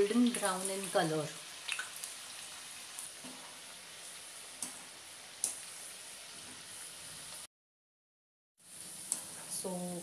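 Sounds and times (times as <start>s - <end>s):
food deep-frying in oil: 0.0s - 7.5s, 8.6s - 10.0s.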